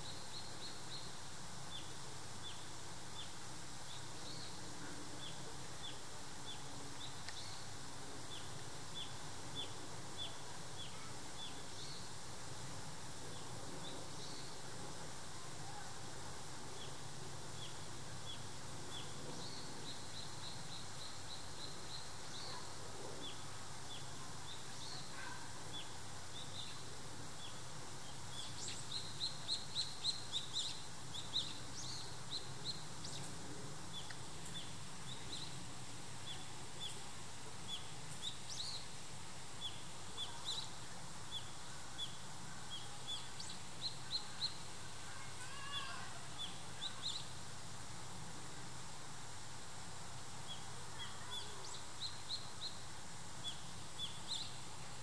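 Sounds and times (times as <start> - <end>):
small birds chirping: 0.0 - 55.0
steady low background noise: 0.0 - 55.0.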